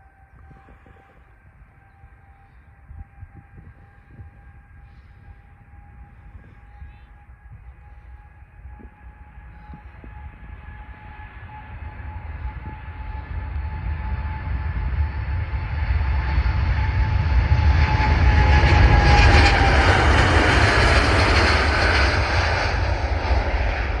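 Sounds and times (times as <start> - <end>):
jet engine whine: 0.0 - 24.0
jet engines roaring: 0.0 - 24.0.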